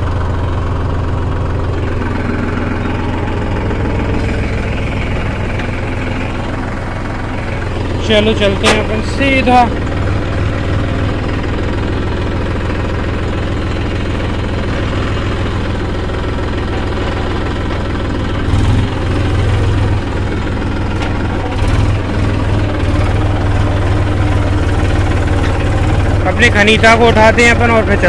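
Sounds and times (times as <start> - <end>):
diesel tractor engine: 0.0 - 28.0.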